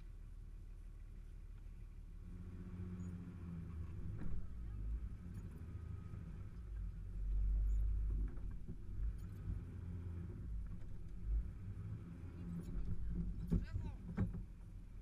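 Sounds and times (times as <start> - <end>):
vehicle engine at low revs: 0.0 - 15.0.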